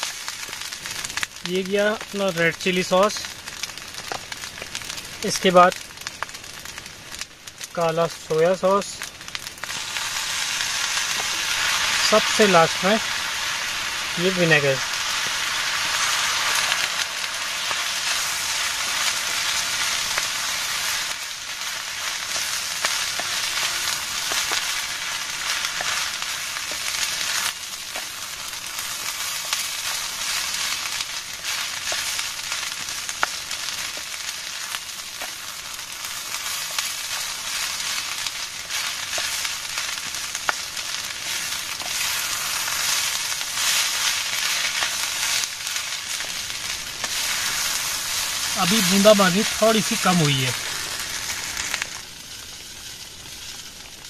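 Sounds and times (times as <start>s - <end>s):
fried rice sizzling in a pan: 0.0s - 54.0s.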